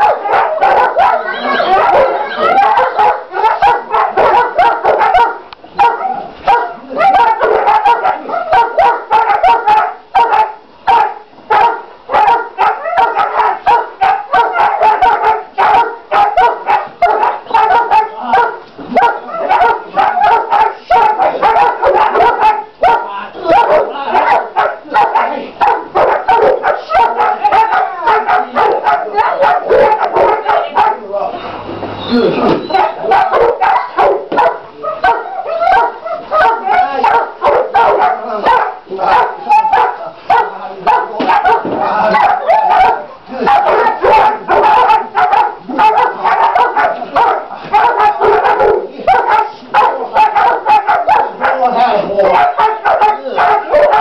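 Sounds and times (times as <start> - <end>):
dogs barking rapidly: 0.0 - 31.1, 32.4 - 54.0.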